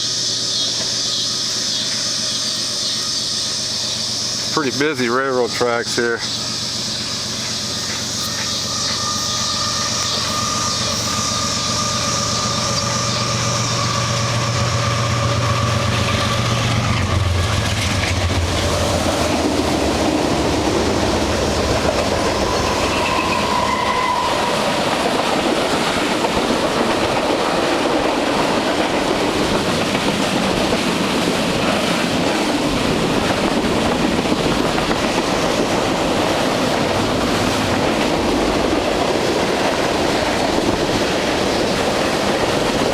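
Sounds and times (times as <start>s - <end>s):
locomotive engine hum: 0.0s - 42.9s
train cars rumbling past: 0.0s - 42.9s
wheels clacking on rail: 0.0s - 42.9s.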